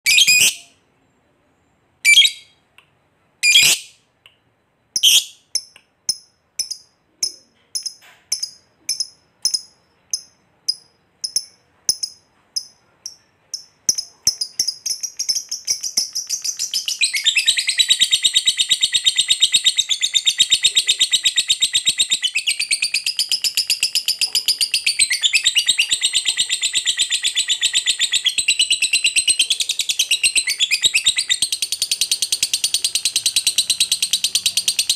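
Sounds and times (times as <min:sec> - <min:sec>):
lovebird chirping: 0:00.0 - 0:34.9.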